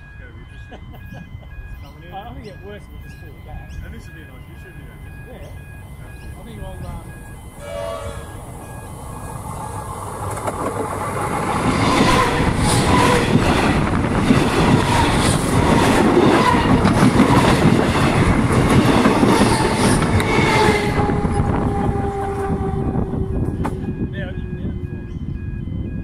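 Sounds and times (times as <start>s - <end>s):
electric train passing overhead: 0.0s - 26.0s
wheels clacking on rails: 0.0s - 26.0s.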